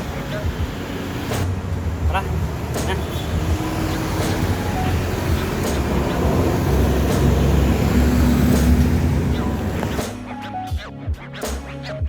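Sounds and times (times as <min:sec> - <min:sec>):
traffic noise: 0:00.0 - 0:10.2.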